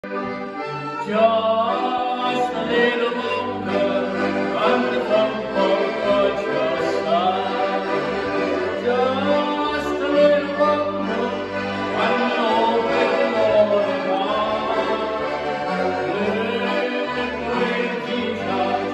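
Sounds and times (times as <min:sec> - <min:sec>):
accordions playing: 0:00.0 - 0:18.9
man singing gospel song: 0:01.0 - 0:07.9, 0:08.8 - 0:15.3, 0:16.1 - 0:18.9.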